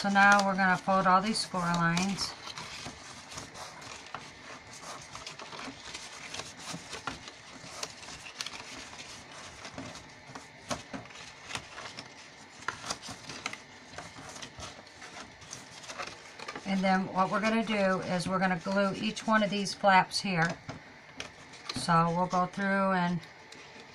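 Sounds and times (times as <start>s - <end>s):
cardstock crackling and rustling: 0.0s - 23.9s.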